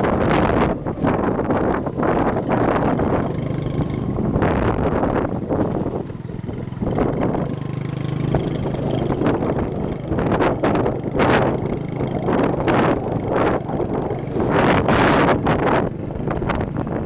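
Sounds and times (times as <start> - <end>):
motorbike engine cruising: 0.0 - 17.0
rushing wind: 0.0 - 17.0.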